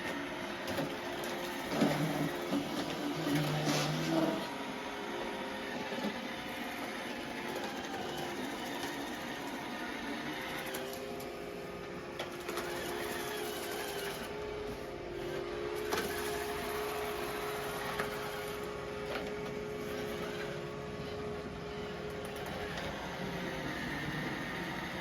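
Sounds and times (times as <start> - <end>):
robot vacuum running on carpet: 0.0 - 25.0.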